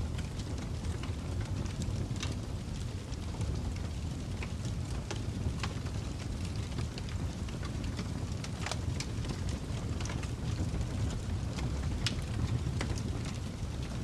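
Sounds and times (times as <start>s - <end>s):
fire popping and snapping: 0.0s - 14.0s
low rumble of flames: 0.0s - 14.0s.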